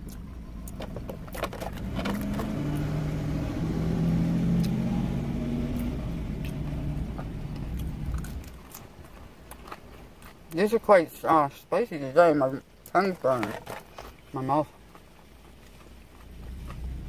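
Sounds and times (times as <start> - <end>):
motor vehicle engine humming: 0.0 - 10.7, 12.6 - 17.0
low steady rumble: 0.0 - 17.0.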